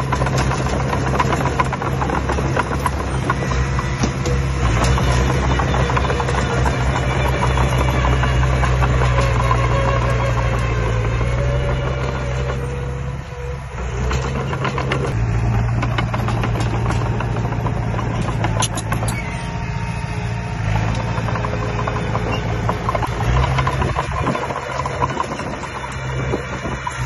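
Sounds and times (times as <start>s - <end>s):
clanks and rattles: 0.0s - 27.0s
diesel engine running: 0.0s - 27.0s.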